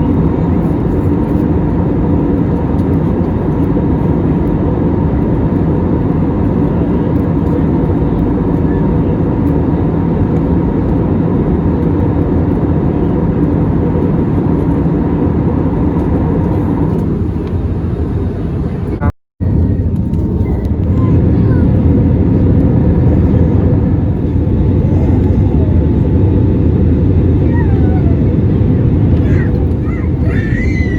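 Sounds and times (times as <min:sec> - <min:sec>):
jet engine and airflow rumble: 0:00.0 - 0:30.9.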